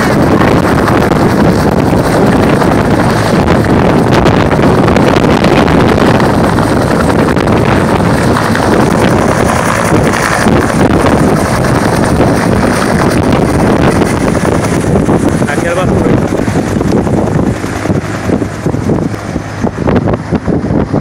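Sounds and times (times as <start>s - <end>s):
helicopter rotor and engine noise: 0.0s - 21.0s
wind buffeting microphone: 0.0s - 21.0s.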